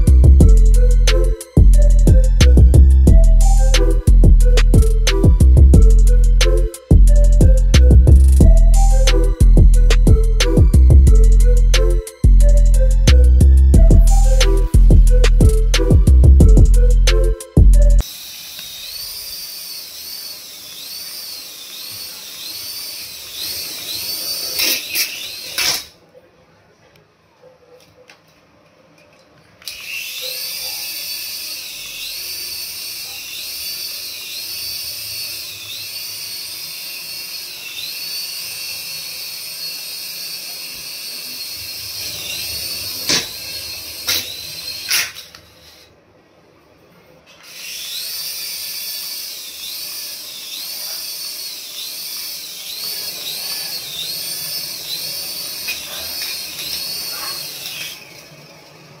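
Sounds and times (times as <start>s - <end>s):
toy electric motor whining: 0.0s - 26.0s, 29.6s - 46.0s, 47.3s - 59.0s.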